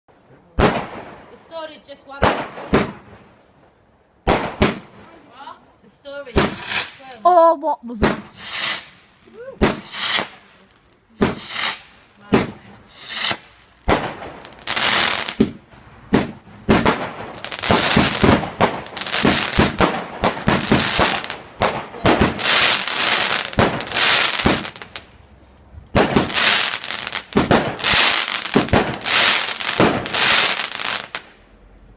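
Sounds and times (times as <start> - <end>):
fireworks banging and crackling: 0.6 - 31.4.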